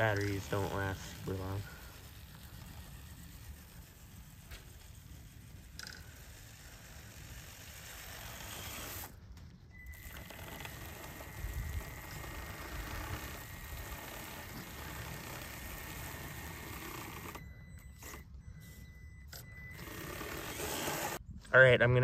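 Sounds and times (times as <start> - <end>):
electric motor and gears whirring: 0.0 - 21.5
steady high whine: 0.0 - 22.0.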